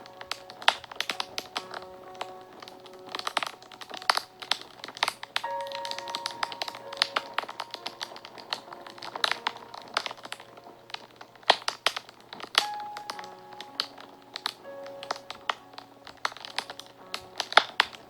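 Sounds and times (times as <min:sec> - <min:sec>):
fire crackling and popping: 0:00.0 - 0:18.0
music of long held notes: 0:00.0 - 0:18.0.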